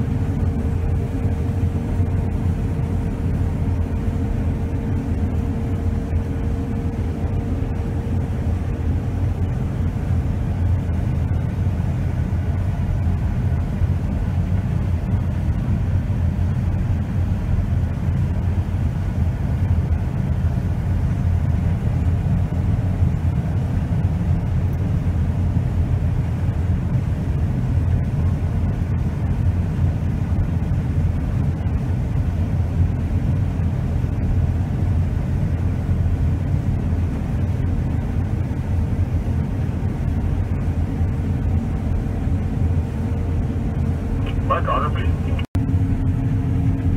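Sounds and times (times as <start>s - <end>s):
combine harvester rumble: 0.0s - 46.9s
faint steady hum: 0.0s - 46.9s.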